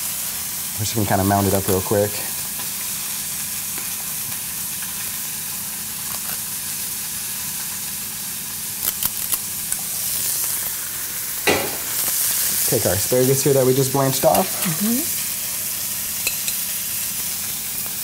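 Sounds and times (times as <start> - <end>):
fish sizzling in a pan: 0.0 - 18.0.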